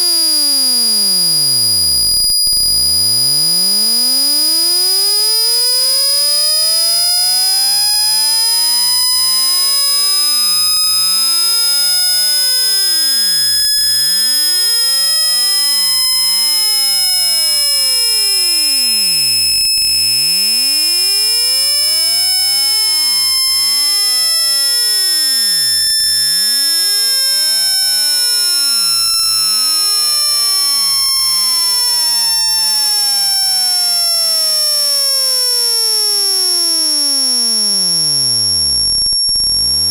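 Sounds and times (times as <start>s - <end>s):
sine tone sweeping in pitch: 0.0s - 39.9s
steady high-pitched whistle: 0.0s - 39.9s.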